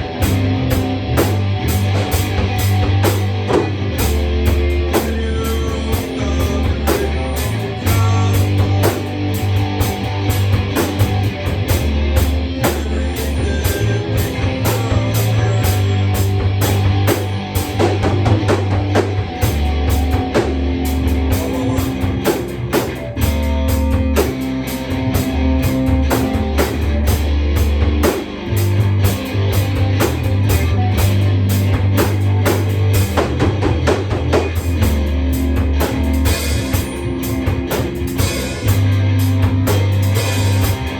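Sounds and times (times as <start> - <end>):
rock music: 0.0 - 40.9.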